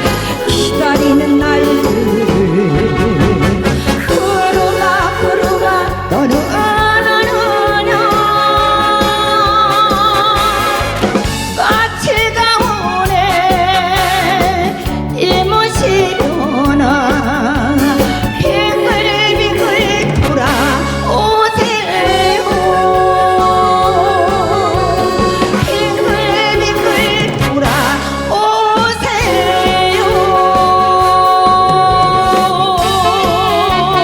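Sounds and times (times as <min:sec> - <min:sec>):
pop band accompaniment: 0:00.0 - 0:34.0
sung melody with vibrato: 0:00.0 - 0:34.0.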